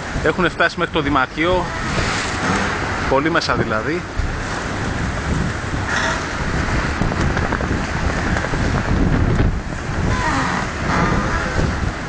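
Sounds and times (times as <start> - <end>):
gale wind buffeting microphone: 0.0 - 12.0.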